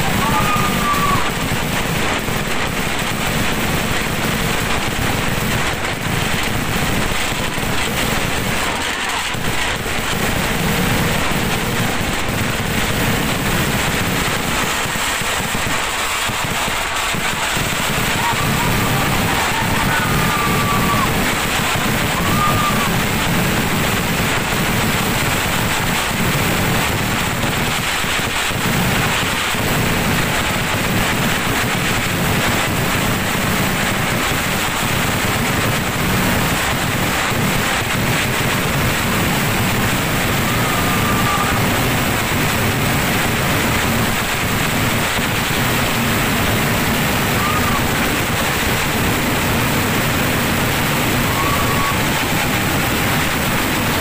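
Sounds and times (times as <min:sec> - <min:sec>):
continuous firecracker explosions: 0:00.0 - 0:54.0.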